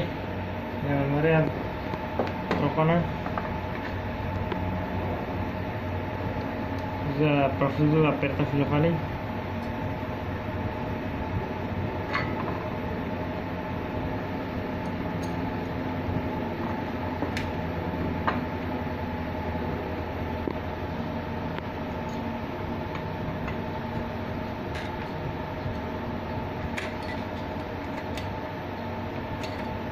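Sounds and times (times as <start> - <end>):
fan hum: 0.0 - 29.9.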